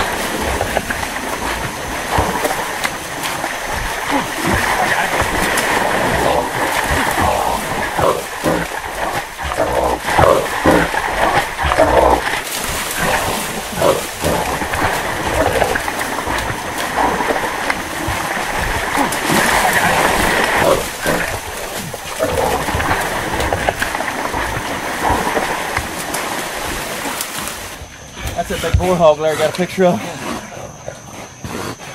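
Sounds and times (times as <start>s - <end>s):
dogs and hog calling: 0.0s - 25.8s, 28.0s - 31.9s
water splashing underfoot: 0.0s - 29.7s.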